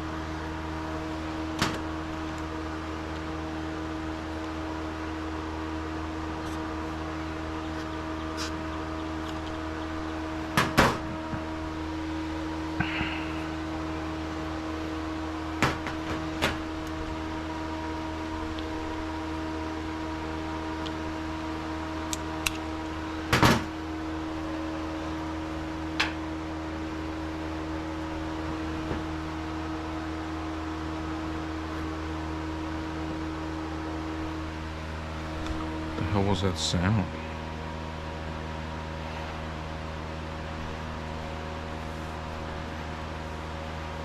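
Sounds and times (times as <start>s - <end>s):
mechanical hum: 0.0s - 44.0s.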